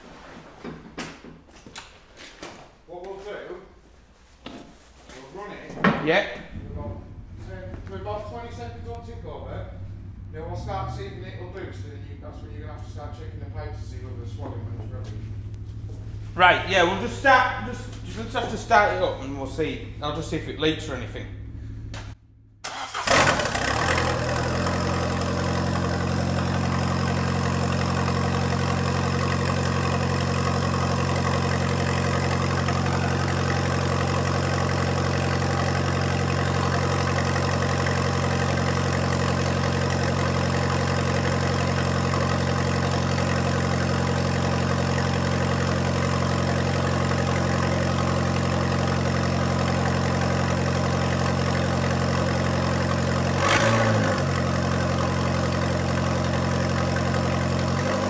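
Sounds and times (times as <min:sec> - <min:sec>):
turbo petrol engine idling: 0:06.4 - 0:58.0.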